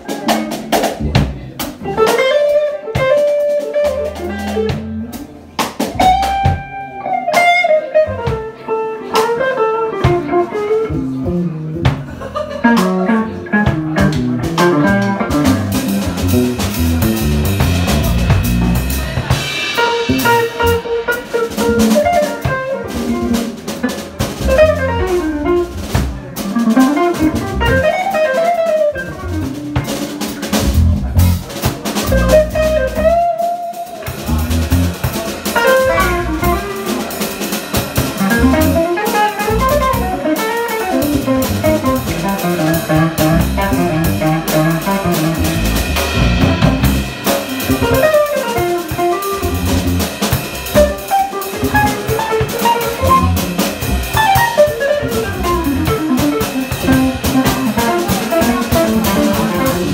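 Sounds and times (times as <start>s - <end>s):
electric bass: 0.0s - 8.5s, 10.0s - 33.4s, 34.1s - 59.9s
drum kit beat: 0.0s - 59.9s
electric guitar: 0.0s - 59.9s.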